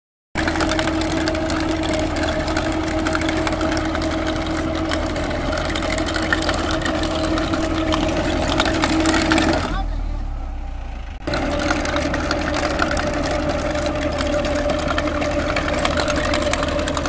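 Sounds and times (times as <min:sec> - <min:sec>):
chain trencher clattering through soil: 0:00.4 - 0:09.9, 0:11.2 - 0:17.0
tractor diesel engine under load: 0:00.4 - 0:17.0.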